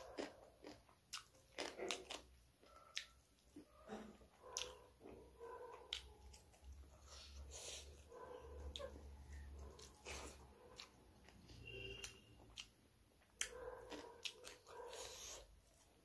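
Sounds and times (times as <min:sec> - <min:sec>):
chewing and lip smacks: 0:00.0 - 0:08.0, 0:08.7 - 0:15.5.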